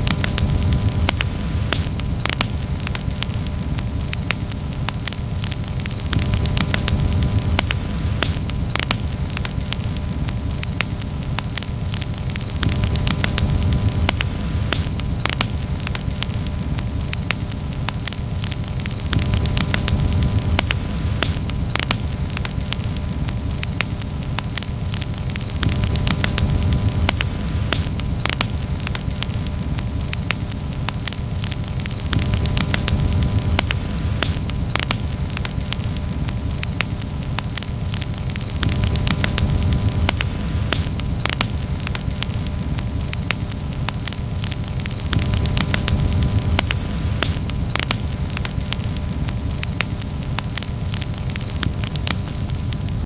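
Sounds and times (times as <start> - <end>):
campfire crackling: 0.0 - 53.0.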